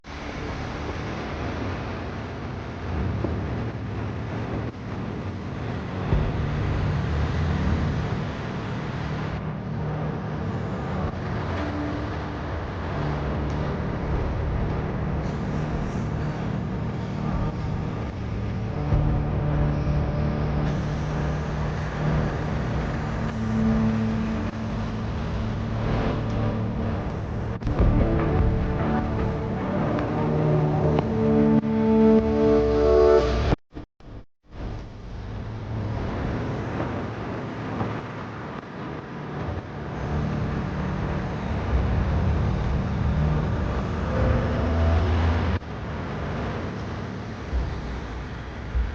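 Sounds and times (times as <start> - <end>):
vehicle engine running: 0.0 - 32.7, 34.6 - 48.9
road noise: 0.0 - 48.9.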